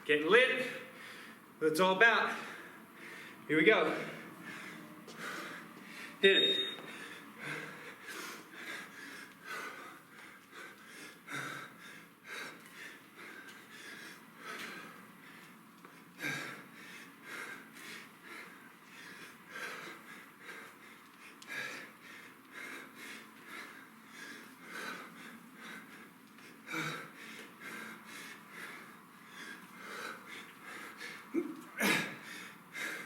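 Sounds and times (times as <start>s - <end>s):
person breathing heavily: 0.6s - 1.5s, 2.2s - 33.0s.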